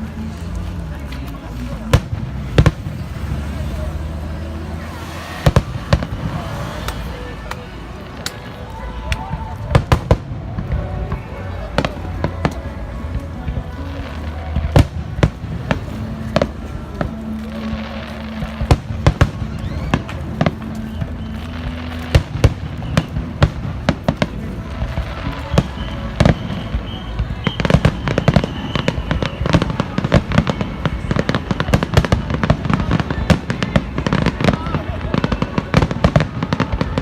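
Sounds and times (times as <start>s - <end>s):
fireworks bursting with sharp bangs: 0.0s - 37.0s
music playing: 0.0s - 37.0s.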